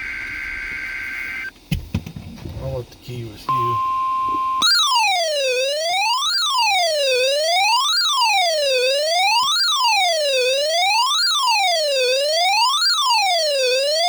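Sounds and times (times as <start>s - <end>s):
electronic siren wailing: 0.0s - 1.5s, 3.8s - 14.0s.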